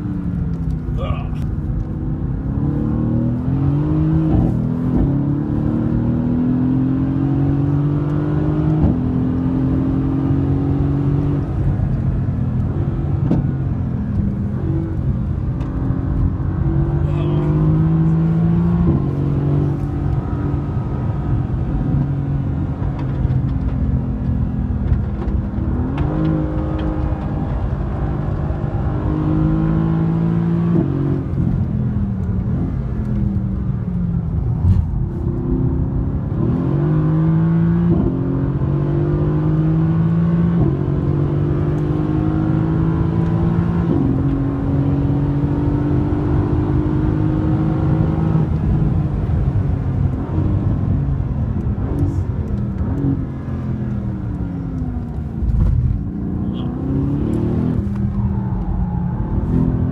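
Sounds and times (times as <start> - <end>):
car engine revving through gears: 0.0 - 59.9.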